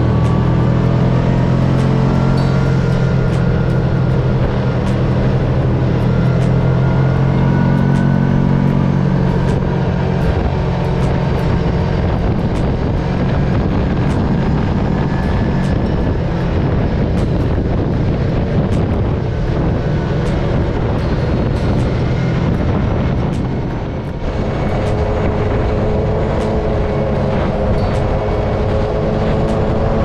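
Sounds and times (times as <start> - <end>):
utv engine droning: 0.0 - 30.0.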